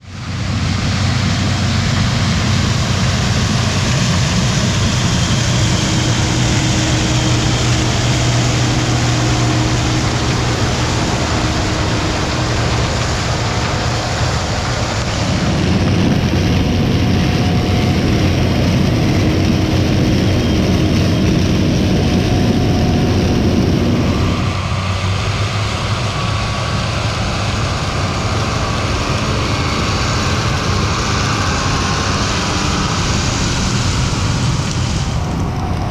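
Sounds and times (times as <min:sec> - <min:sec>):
farm machinery engine hum: 0:00.0 - 0:35.9.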